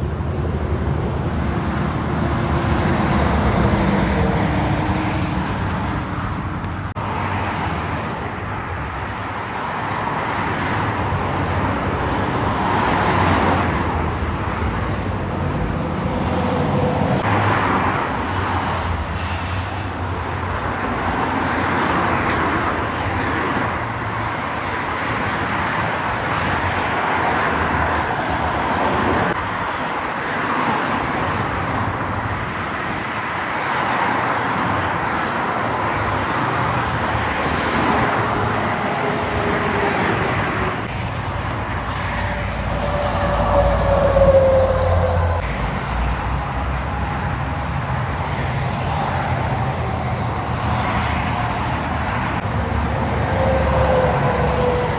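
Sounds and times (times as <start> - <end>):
trucks and cars passing: 0.0 - 54.9.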